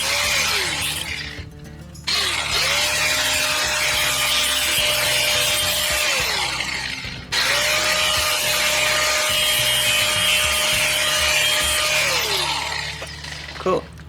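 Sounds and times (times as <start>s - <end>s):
power tool cutting metal: 0.0s - 13.8s.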